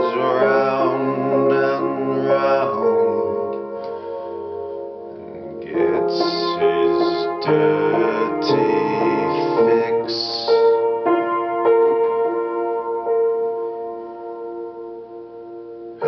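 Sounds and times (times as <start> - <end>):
upright piano chords: 0.0 - 16.0.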